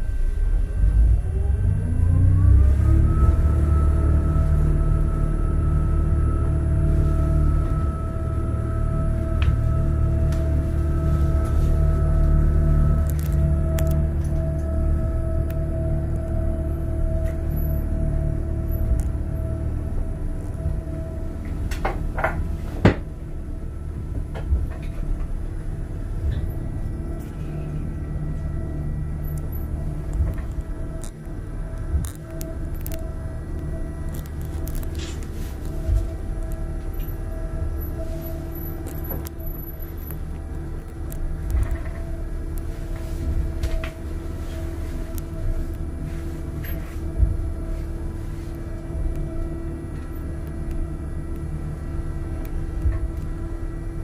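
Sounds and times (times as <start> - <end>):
hum: 0.0 - 54.0
monorail car rumble: 0.0 - 54.0.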